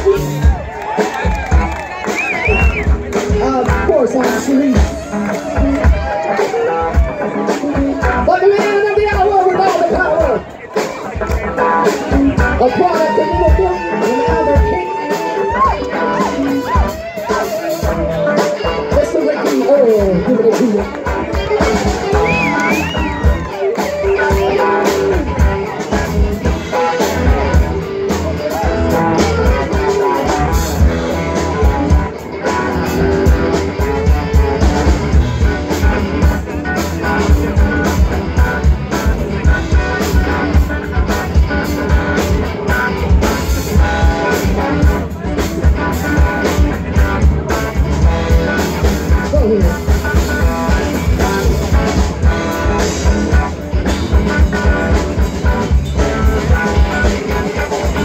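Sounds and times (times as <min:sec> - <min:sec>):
drum kit steady beat: 0:00.0 - 0:58.0
electric guitars: 0:00.0 - 0:58.0.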